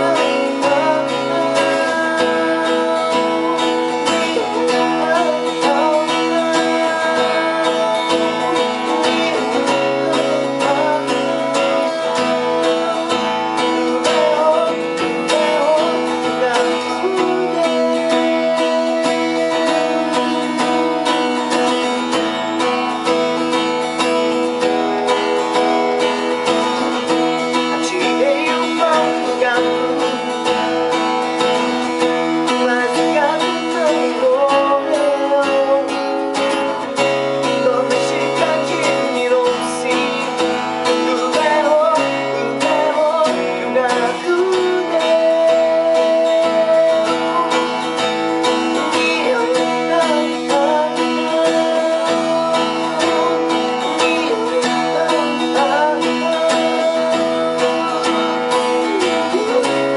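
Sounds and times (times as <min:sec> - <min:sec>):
acoustic guitar music: 0:00.0 - 0:59.9.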